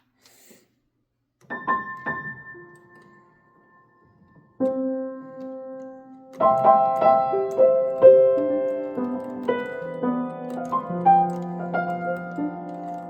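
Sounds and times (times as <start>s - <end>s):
grand piano playing chords: 1.4s - 13.0s.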